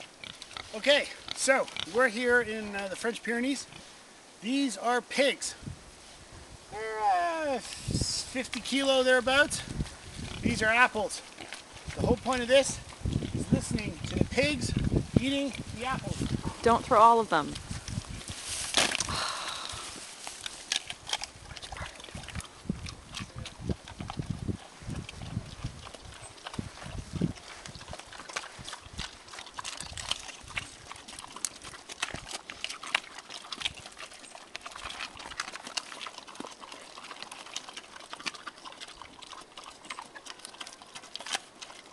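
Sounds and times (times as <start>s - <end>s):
pigs crunching apples: 0.0s - 3.9s, 7.0s - 41.9s.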